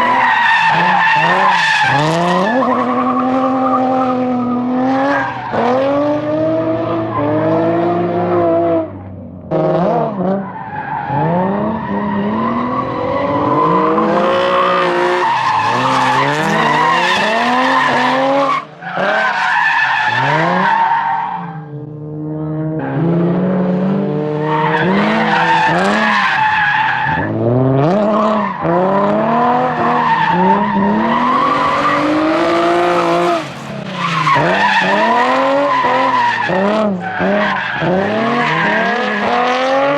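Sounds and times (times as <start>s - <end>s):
tyres squealing and skidding: 0.0s - 8.5s, 10.1s - 21.8s, 22.7s - 39.9s
car engine revving: 0.0s - 39.9s.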